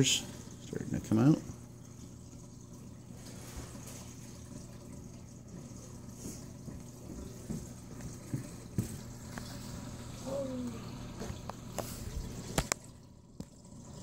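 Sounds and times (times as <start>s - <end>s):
aquarium water trickling: 0.0s - 14.0s
low steady hum: 0.0s - 14.0s.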